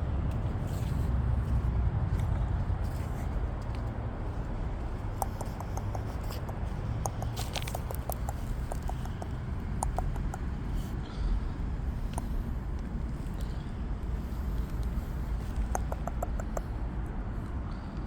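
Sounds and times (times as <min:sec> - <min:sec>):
steady low rumble: 0:00.0 - 0:18.0
light irregular clicking and pattering: 0:02.2 - 0:16.8.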